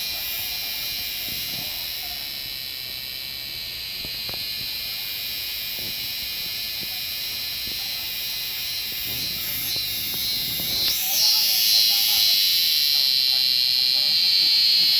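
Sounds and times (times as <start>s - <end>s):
cicadas singing: 0.0s - 14.9s.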